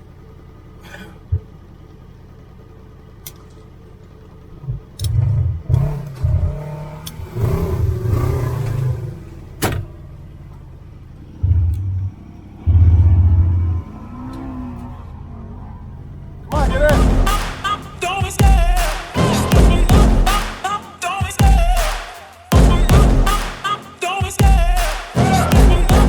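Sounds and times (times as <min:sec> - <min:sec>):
utility vehicle engine revving: 0:00.0 - 0:26.0.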